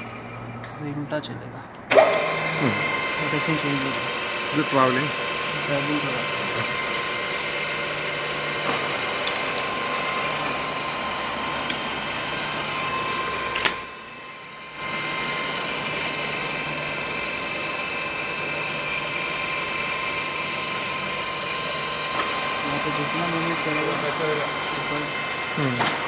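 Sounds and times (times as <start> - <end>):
milling machine gear whine: 0.0 - 26.0.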